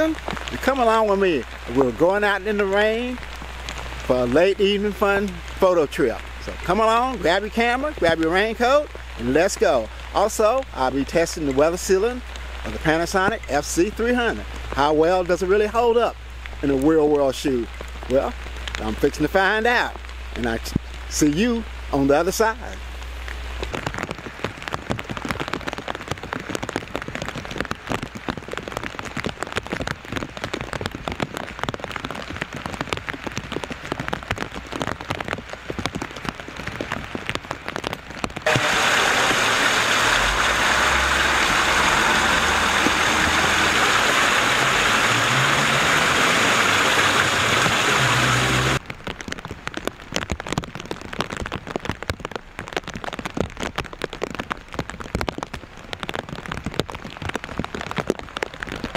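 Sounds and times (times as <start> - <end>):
rain patter: 0.0 - 58.9
rush of rain: 0.0 - 58.9.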